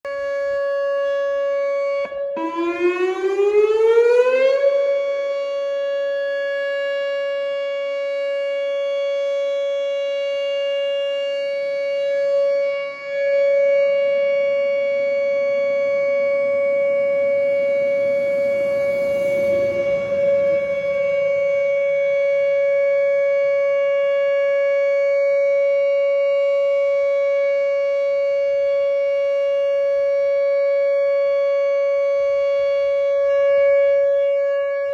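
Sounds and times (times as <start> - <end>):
outdoor warning siren: 0.0 - 34.9.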